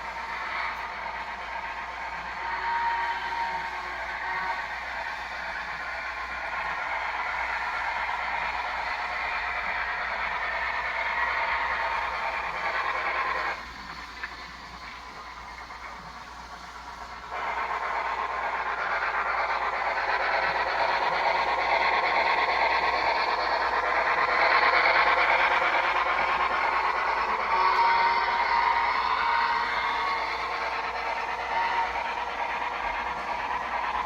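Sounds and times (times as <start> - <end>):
model train clattering: 0.0 - 34.0.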